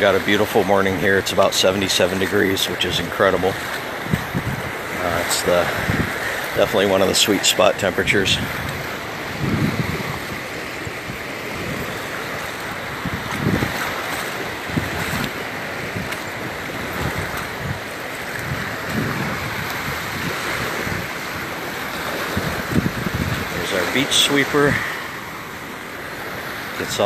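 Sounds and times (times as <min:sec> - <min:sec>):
surf washing onto beach: 0:00.0 - 0:27.0
wind buffeting microphone: 0:00.0 - 0:27.0.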